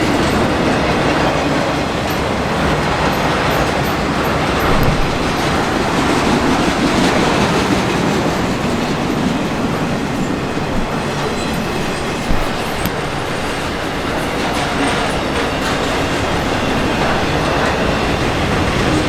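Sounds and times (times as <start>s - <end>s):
train rolling over rails: 0.0s - 19.0s.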